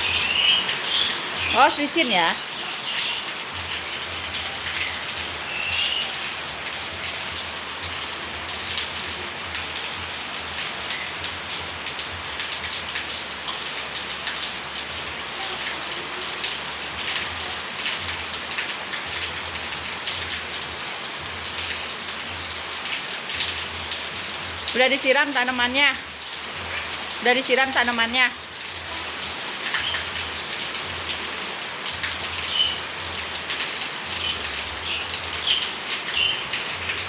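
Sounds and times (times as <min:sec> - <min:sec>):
raindrops ticking on surfaces: 0:00.0 - 0:37.0
steady rain falling: 0:00.0 - 0:37.0.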